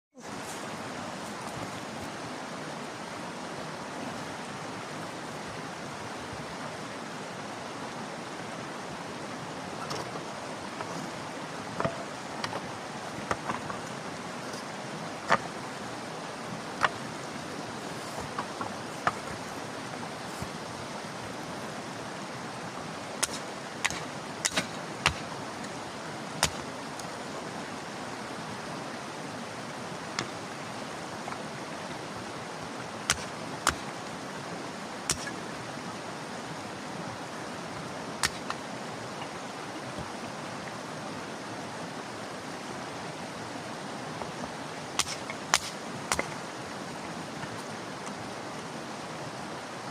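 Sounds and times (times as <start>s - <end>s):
steady rushing hiss: 0.1s - 49.9s.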